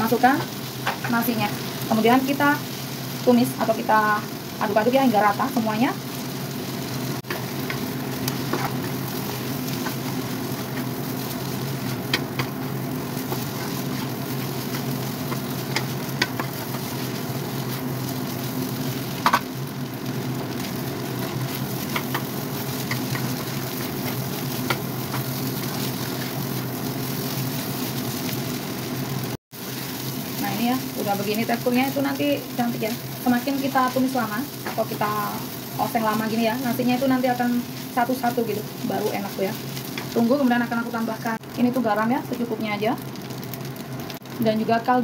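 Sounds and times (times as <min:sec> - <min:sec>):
rice sizzling in a wok: 0:00.0 - 0:45.0.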